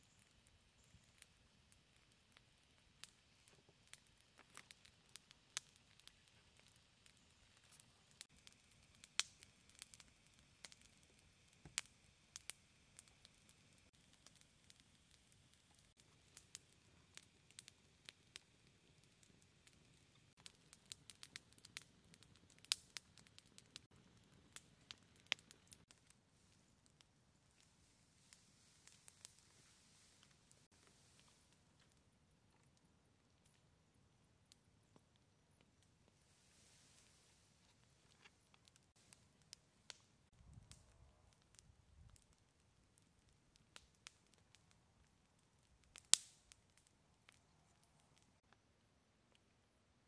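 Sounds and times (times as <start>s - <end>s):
wood fire crackling and popping: 0.0s - 48.6s.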